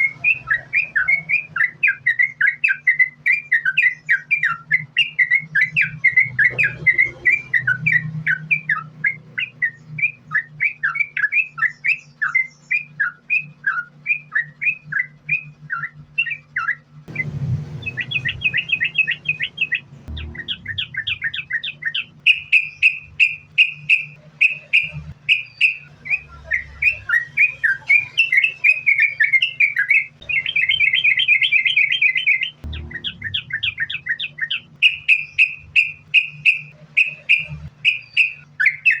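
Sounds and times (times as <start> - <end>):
bird singing chattering notes: 0.0 - 39.0
steady low hum: 0.0 - 39.0.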